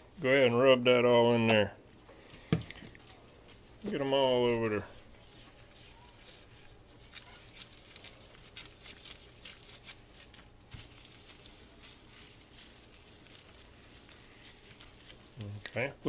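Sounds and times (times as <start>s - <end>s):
hands rubbing meat on metal pan: 2.2s - 16.0s.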